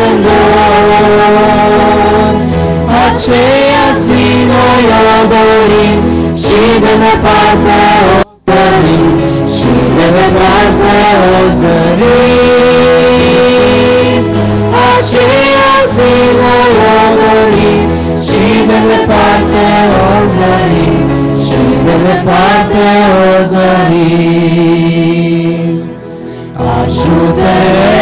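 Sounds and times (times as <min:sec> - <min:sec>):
group singing hymn into microphones: 0:00.0 - 0:28.0.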